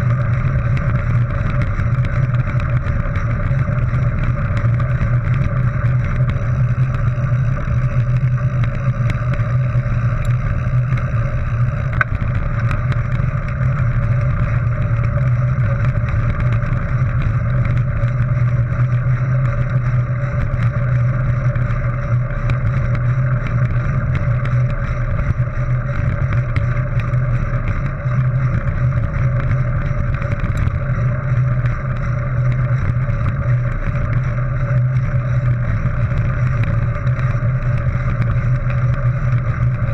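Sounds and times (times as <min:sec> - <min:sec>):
bike tyres on gravel: 0:00.0 - 0:39.9.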